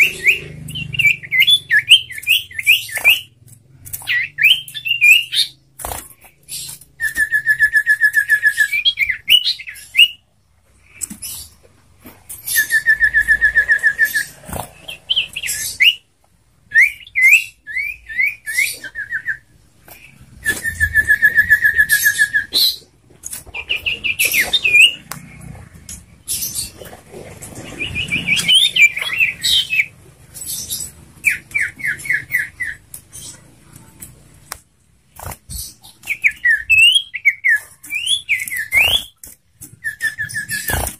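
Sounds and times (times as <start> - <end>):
bird trills and chirps: 0.0 - 34.5, 35.1 - 40.9.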